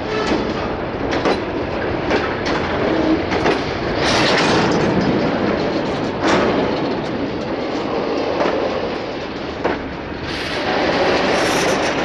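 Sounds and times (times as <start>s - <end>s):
train wagons rumbling: 0.0s - 12.0s
wheel clacks over rail joints: 0.0s - 12.0s.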